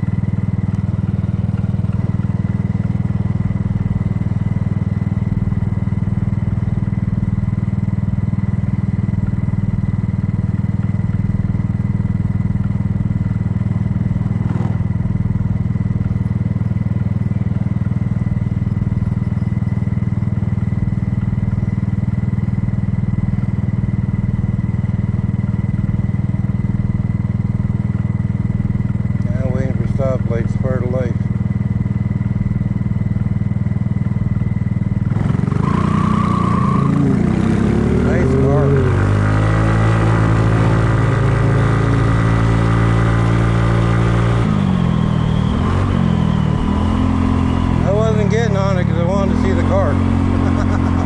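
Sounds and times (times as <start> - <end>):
scooter engine idling: 0.0 - 51.0.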